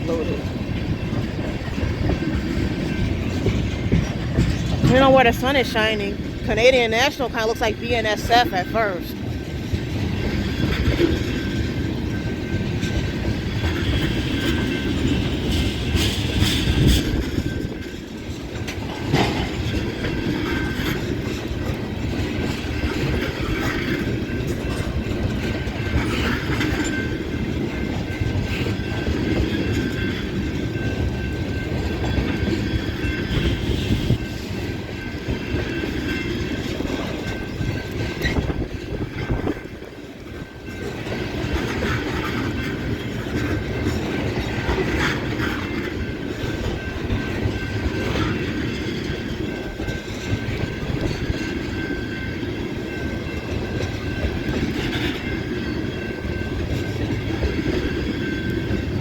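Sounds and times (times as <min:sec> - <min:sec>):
freight train wheels rumbling on rail: 0:00.0 - 0:59.0
wheels clacking over rail joints: 0:00.0 - 0:59.0.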